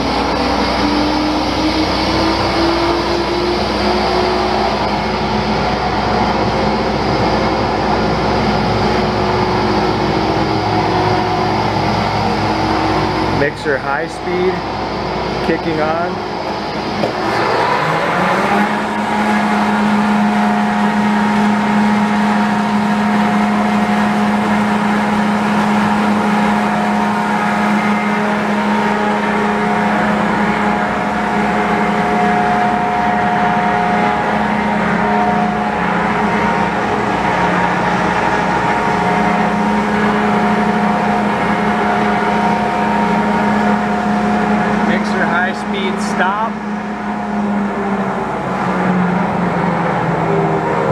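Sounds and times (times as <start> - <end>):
mixer humming and whining: 0.0 - 50.9.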